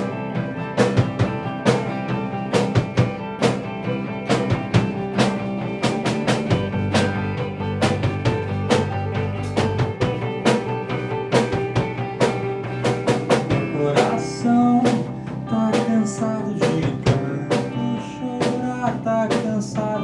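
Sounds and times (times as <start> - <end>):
bass: 0.0 - 20.0
drum kit beat: 0.0 - 20.0.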